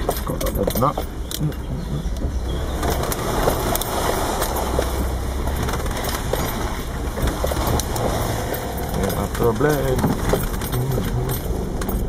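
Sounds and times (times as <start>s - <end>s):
car engine drone: 0.0s - 12.0s
rattles and knocks of car body: 0.0s - 12.0s.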